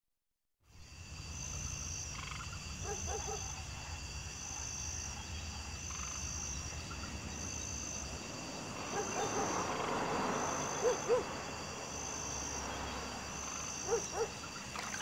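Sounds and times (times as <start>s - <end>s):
insects trilling: 0.7s - 15.0s
frogs croaking: 0.8s - 15.0s.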